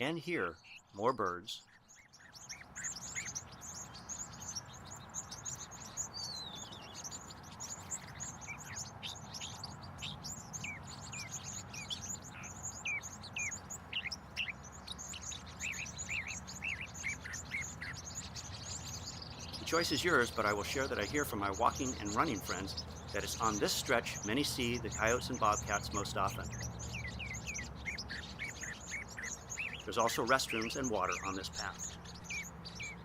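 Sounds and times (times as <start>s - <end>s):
songbirds chirping: 0.0s - 33.0s
low background rush: 2.3s - 33.0s.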